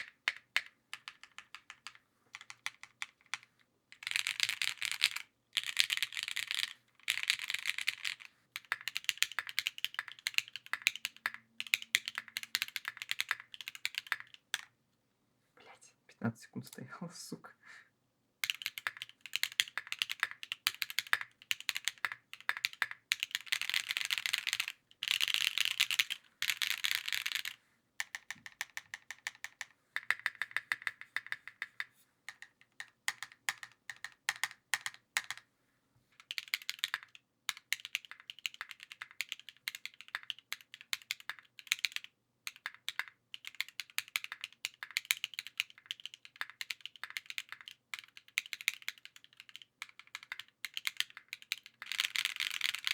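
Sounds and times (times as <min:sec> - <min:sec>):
mechanical keyboard typing: 0:04.0 - 0:14.7, 0:18.4 - 0:35.4, 0:36.3 - 0:52.9.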